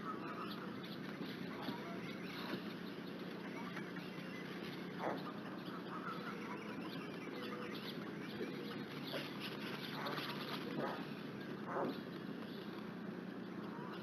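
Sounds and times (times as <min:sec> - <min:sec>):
birds calling: 0:00.0 - 0:14.0
steady low hum: 0:00.0 - 0:14.0.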